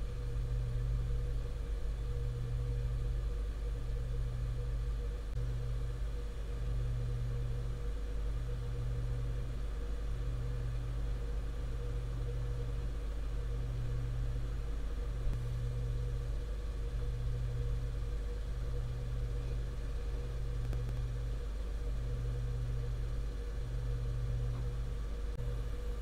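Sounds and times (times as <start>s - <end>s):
computer fan whir and hum: 0.0s - 26.0s.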